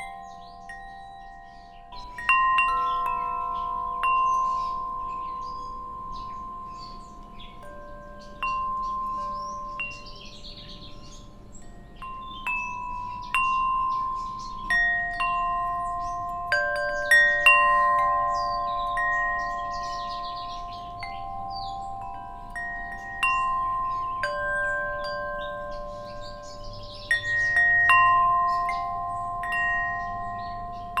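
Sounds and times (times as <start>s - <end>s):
faint birds chirping: 0.0s - 31.0s
wind chimes ringing: 0.0s - 31.0s.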